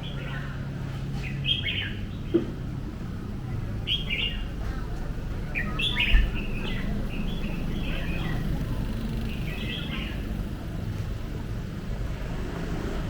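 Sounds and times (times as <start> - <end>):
small birds chirping: 0.0 - 11.5
city traffic hum: 0.0 - 13.0.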